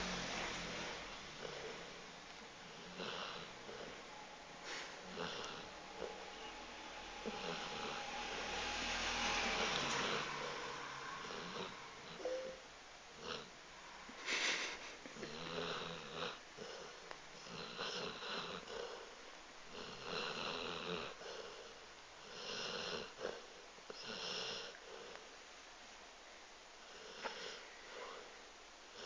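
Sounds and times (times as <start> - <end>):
dog snoring: 0.0 - 12.6, 13.2 - 13.5, 15.2 - 25.2, 26.8 - 28.3.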